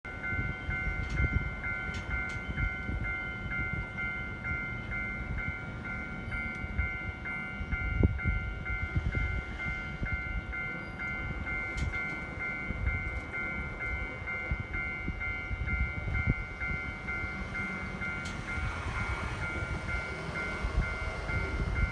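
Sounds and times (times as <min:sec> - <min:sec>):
level crossing warning bell: 0:00.1 - 0:21.9.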